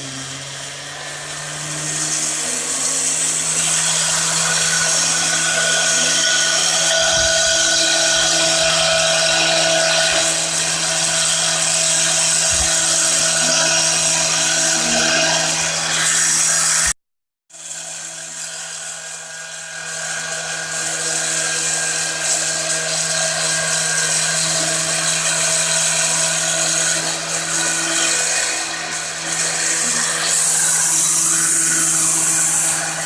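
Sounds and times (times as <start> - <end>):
harsh hissing cutting noise: 0.0 - 17.0, 17.6 - 33.0
power tool motor running: 0.0 - 17.0, 17.6 - 33.0.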